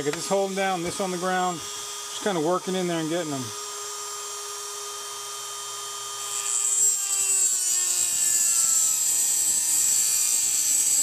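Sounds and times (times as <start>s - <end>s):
rotary tool grinding metal: 0.0s - 11.0s.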